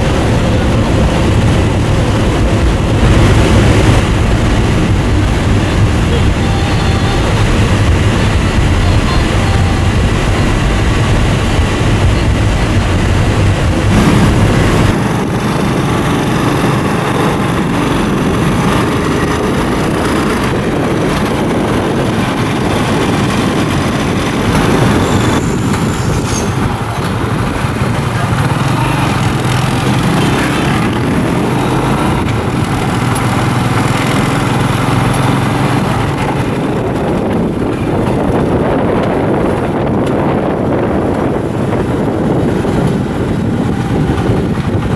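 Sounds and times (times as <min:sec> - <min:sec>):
tuk-tuk engine: 0:00.0 - 0:44.9.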